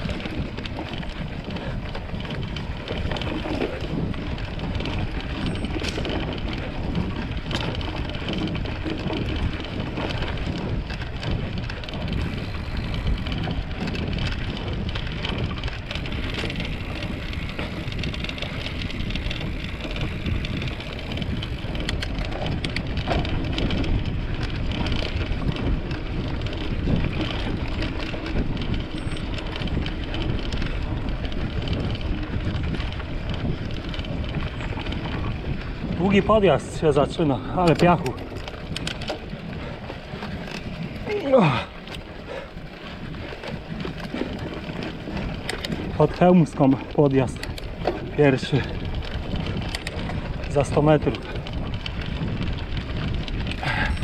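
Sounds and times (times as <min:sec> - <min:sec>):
bike clicks and knocks: 0:00.0 - 0:54.0
tyres rumbling on trail: 0:00.0 - 0:54.0
wind noise on microphone: 0:00.0 - 0:54.0.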